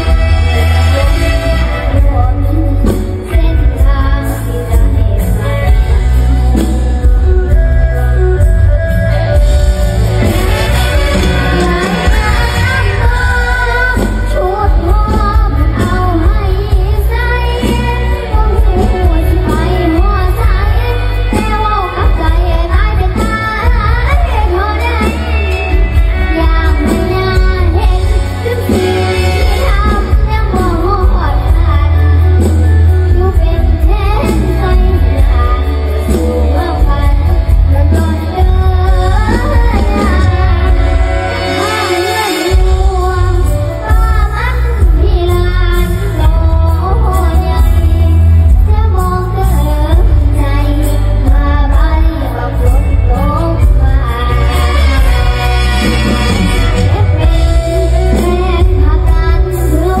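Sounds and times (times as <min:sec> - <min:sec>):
backing track with heavy bass: 0:00.0 - 1:00.0
woman singing: 0:00.0 - 1:00.0.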